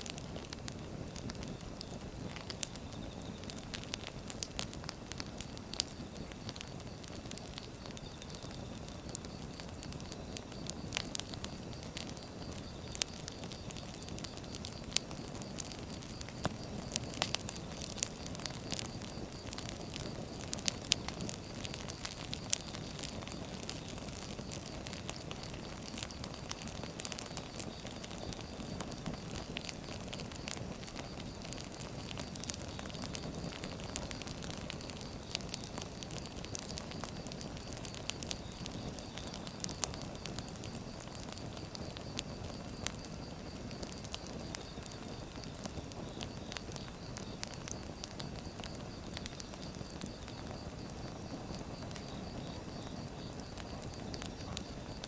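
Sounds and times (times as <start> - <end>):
firewood burning with crackles: 0.0 - 55.0.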